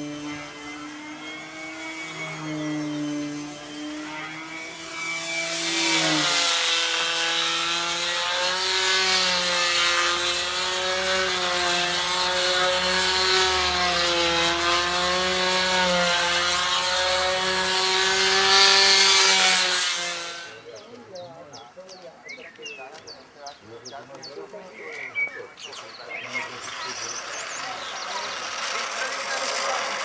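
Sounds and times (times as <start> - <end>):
model aircraft engine buzzing: 0.0 - 21.8, 22.6 - 30.0.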